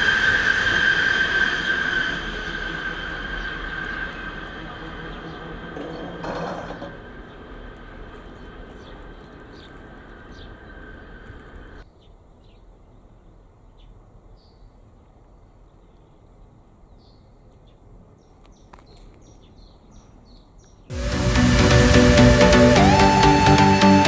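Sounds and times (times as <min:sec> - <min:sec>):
faint bird chirps: 0:01.6 - 0:20.9.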